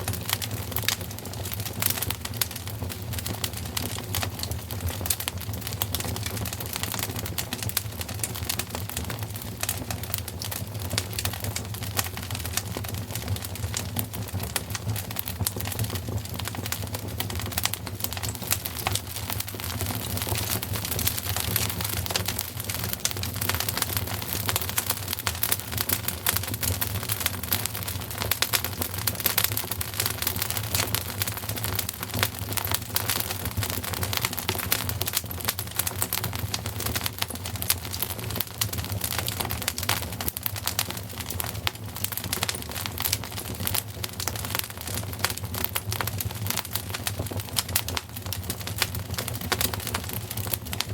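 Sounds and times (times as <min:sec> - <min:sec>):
low rumble of flame: 0:00.0 - 0:50.9
wood fire crackling: 0:00.0 - 0:50.9.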